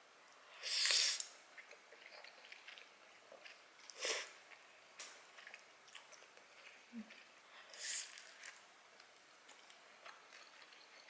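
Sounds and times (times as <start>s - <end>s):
faint chewing: 0.7s - 11.0s.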